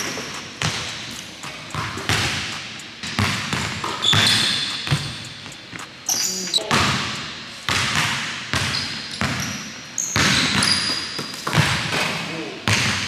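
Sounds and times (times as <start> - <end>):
basketball bouncing on hardwood floor: 0.0 - 9.5, 10.2 - 12.0, 12.7 - 13.0.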